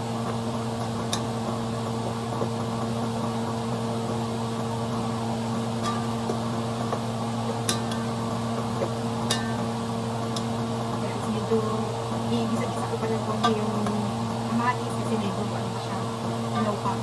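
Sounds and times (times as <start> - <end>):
electric fan hum: 0.0 - 17.0.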